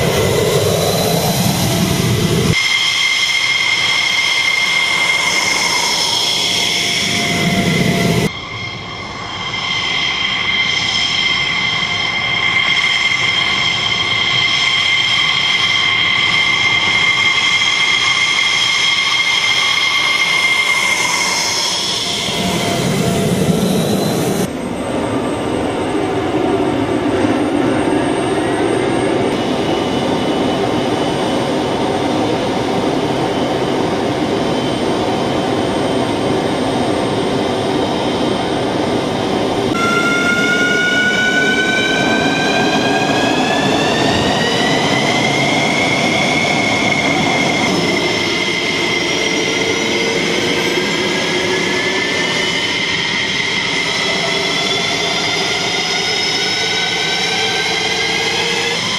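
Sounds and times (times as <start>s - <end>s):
jet engine roar: 0.0s - 58.9s
turbine whine rising in pitch: 0.0s - 58.9s.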